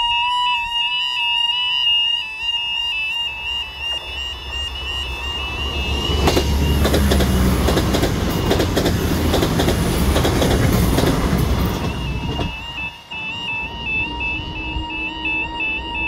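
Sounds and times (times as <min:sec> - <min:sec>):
diesel train engine drone: 0:00.0 - 0:16.0
level crossing warning alarm: 0:00.0 - 0:16.0.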